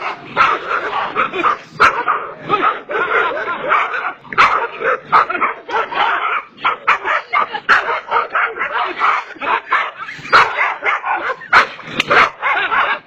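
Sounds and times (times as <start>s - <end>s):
dogs barking aggressively: 0.0s - 13.0s.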